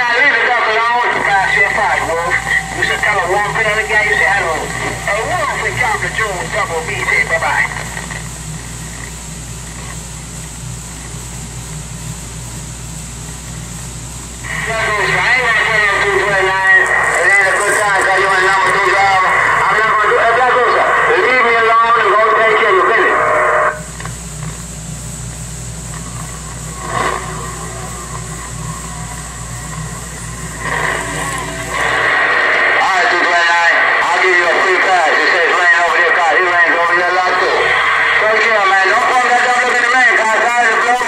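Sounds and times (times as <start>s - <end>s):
low hum: 0.0s - 41.0s
radio static hiss: 0.0s - 41.0s.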